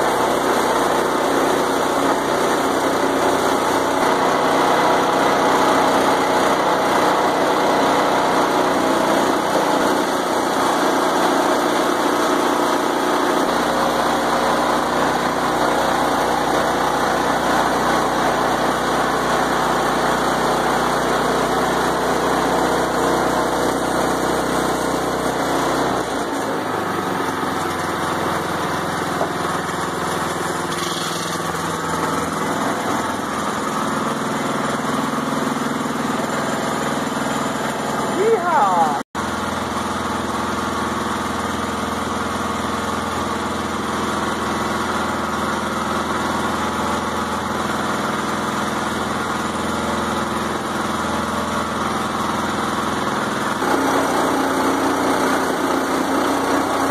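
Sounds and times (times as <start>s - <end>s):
small gas engine running: 0.0s - 56.9s.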